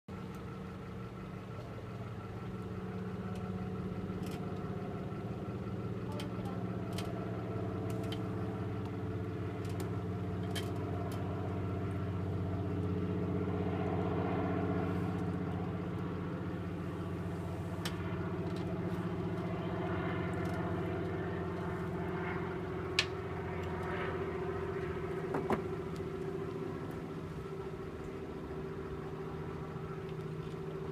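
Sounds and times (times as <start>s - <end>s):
engine idling: 0.1s - 30.9s.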